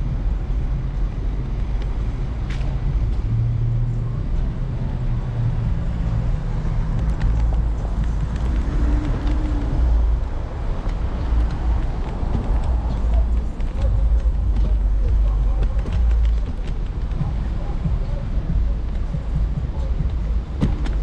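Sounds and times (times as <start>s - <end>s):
city street traffic: 0.0s - 21.0s
low engine hum: 0.0s - 21.0s
wind and road noise rumble: 0.0s - 21.0s.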